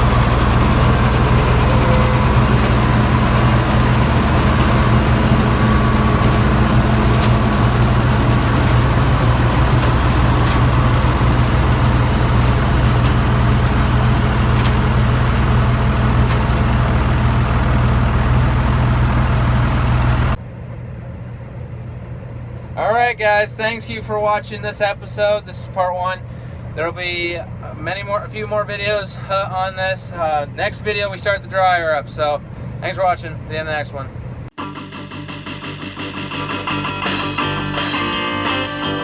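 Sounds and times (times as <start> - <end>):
combine harvester engine hum: 0.0 - 34.5.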